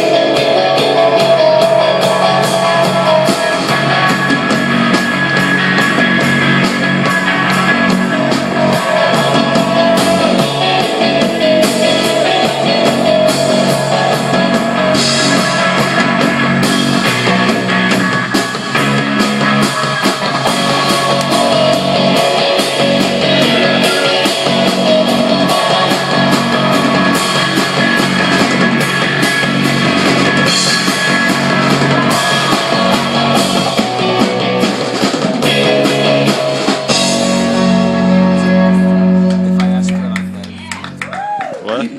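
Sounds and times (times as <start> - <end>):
fast drum beat: 0.0 - 38.0
distorted electric guitar: 0.0 - 41.4
bass guitar: 0.0 - 41.9.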